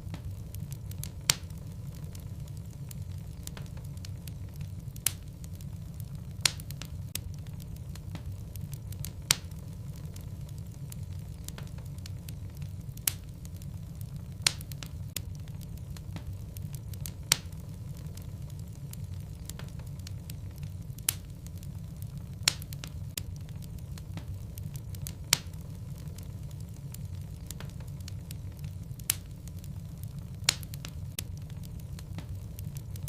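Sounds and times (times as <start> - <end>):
fire crackles and pops: 0.0 - 33.0
low rumble of flames: 0.0 - 33.0.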